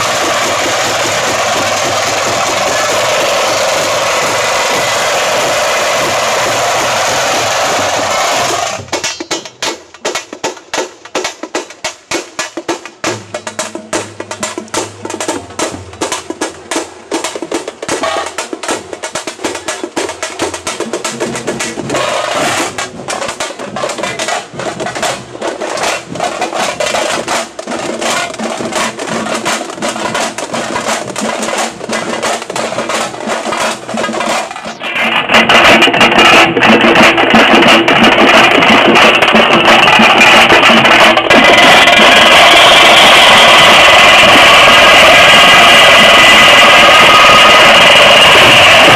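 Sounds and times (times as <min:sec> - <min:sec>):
frame drums beaten fast: 0:00.0 - 0:48.9.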